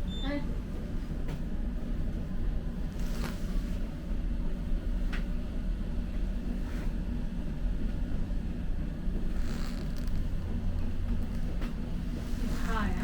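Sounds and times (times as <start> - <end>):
faint hum: 0.0 - 13.0
low rumble: 2.3 - 13.0.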